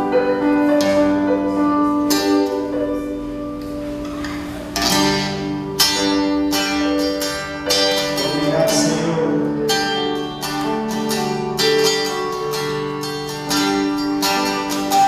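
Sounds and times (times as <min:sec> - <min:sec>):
church band playing chords: 0:00.0 - 0:15.0.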